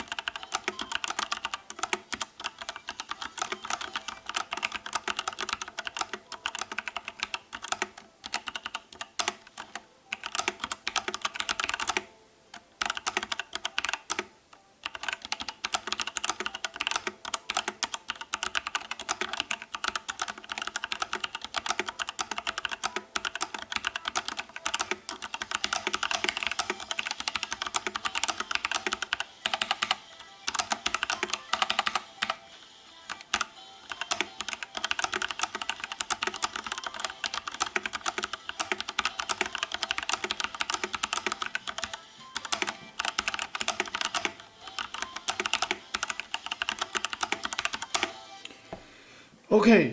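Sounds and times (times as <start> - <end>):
fast mechanical keyboard typing: 0.0 - 32.4, 33.1 - 48.1.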